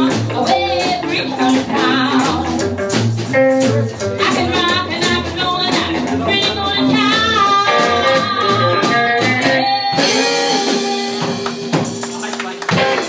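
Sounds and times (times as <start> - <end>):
drum kit: 0.0 - 13.0
electric guitar: 0.0 - 13.0
upright bass: 0.0 - 13.0.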